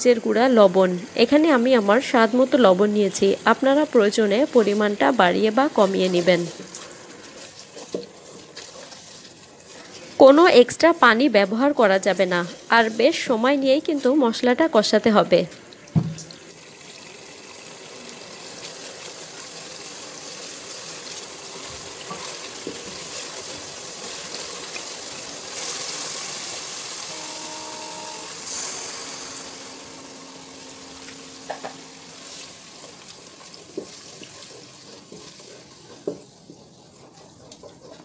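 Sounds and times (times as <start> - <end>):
spice paste sizzling in oil: 0.0 - 15.2, 16.5 - 37.2.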